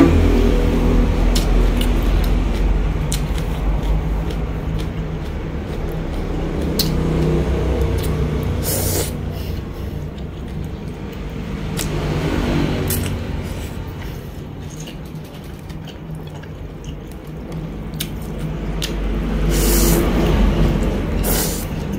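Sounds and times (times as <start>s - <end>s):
steady low rumble: 0.0s - 21.9s
chewing: 1.3s - 9.2s, 10.0s - 12.0s, 13.9s - 21.9s.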